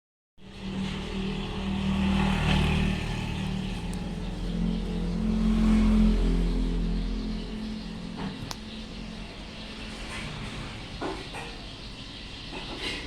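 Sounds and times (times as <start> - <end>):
ceiling fan motor hum: 0.4 - 11.0.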